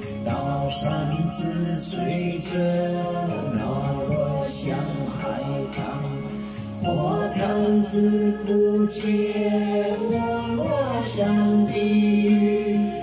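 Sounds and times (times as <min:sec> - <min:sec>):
musical backing: 0:00.0 - 0:13.0.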